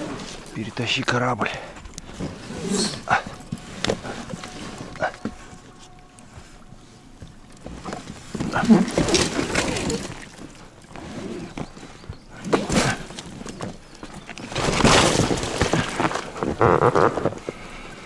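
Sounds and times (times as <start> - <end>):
boat thudding and scraping on logs: 1.5 - 17.8.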